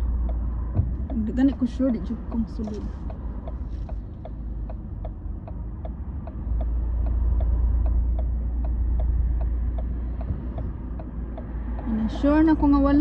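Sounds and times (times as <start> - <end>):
engine rumble: 0.0 - 13.0
turn signal ticking: 0.0 - 13.0
vehicle passing: 0.0 - 13.0.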